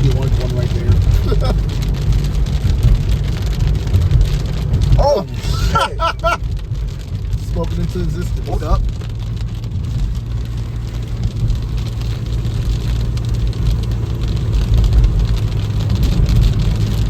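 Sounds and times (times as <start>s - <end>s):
car road and engine noise: 0.0s - 17.0s
rain on car: 0.0s - 17.0s.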